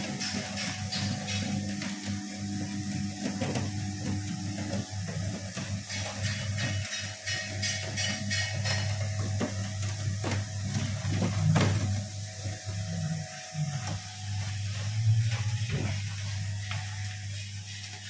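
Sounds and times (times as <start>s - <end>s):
feed mixer motor humming: 0.0s - 18.0s.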